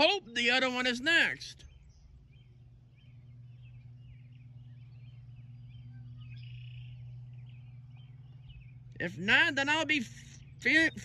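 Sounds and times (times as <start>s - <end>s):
birds chirping: 0.0s - 11.0s
low hum: 0.0s - 11.0s.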